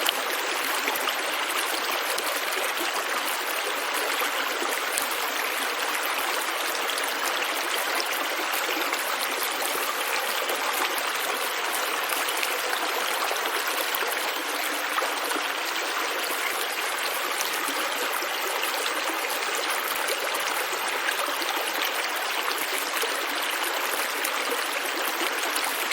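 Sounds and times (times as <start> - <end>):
stream trickling over rocks: 0.0 - 25.9.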